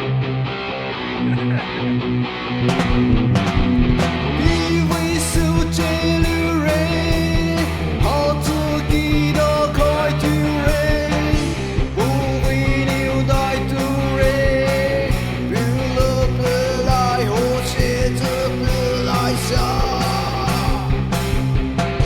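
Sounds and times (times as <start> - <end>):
rock music with singing: 0.0 - 22.0.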